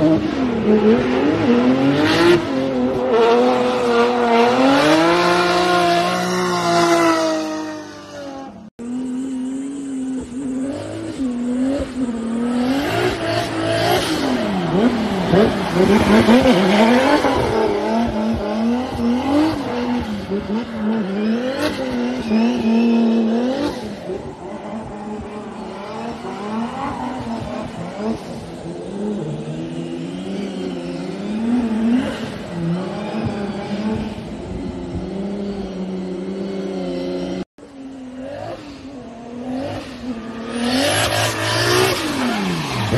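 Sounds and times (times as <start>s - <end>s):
race car engine revving: 0.0s - 37.5s, 38.1s - 42.9s.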